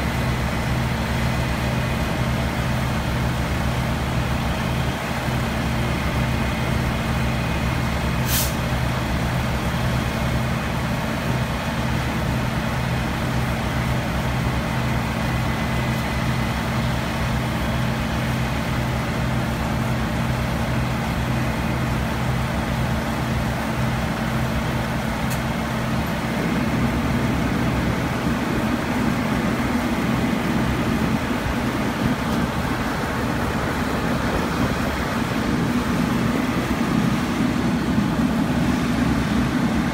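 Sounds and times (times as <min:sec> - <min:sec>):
fire engine running: 0:00.0 - 0:39.9.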